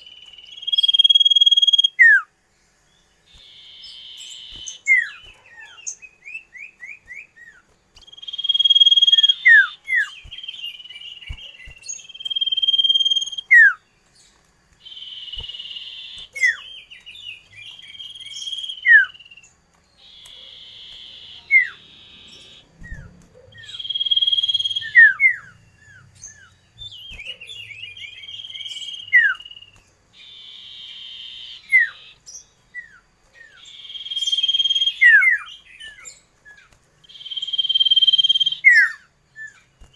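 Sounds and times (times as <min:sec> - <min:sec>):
bird down-slurred whistles: 0:00.0 - 0:02.3, 0:03.3 - 0:13.8, 0:20.0 - 0:39.9
bird buzzy trill: 0:00.0 - 0:02.4, 0:03.0 - 0:39.9.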